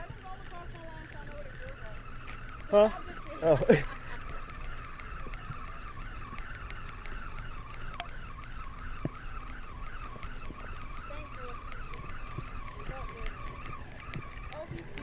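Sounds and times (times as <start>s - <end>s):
fishing reel whining: 0.0s - 15.0s.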